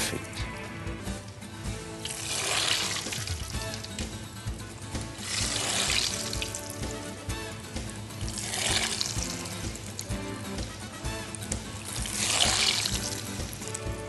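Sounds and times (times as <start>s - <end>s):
food sizzling in hot oil: 1.7s - 13.9s.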